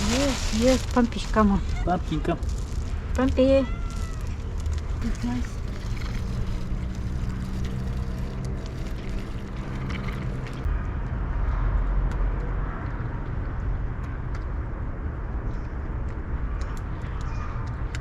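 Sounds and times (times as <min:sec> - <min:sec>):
traffic rumble: 0:00.0 - 0:18.0
vehicle engine hum: 0:00.0 - 0:18.0.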